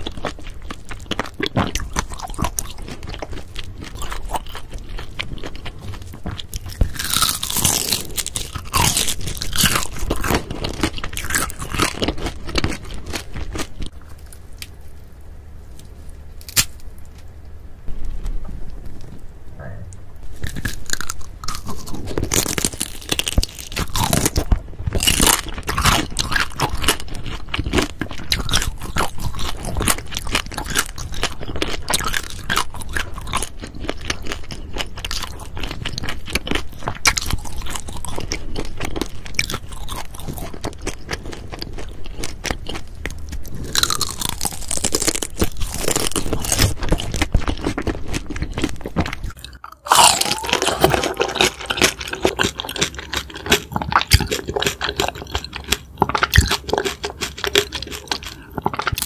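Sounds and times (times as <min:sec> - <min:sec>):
wet crunchy chewing: 0:00.0 - 0:15.0, 0:18.9 - 0:59.0.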